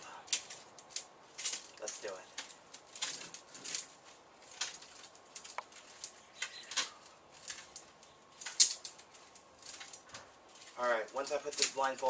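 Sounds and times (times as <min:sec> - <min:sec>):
hands handling small objects: 0:00.3 - 0:11.9.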